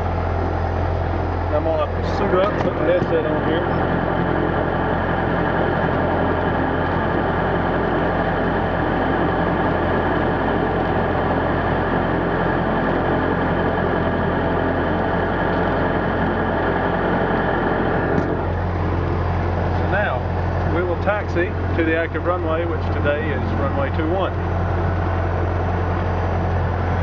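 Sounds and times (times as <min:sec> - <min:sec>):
aircraft engine and propeller idling: 0:00.0 - 0:27.0.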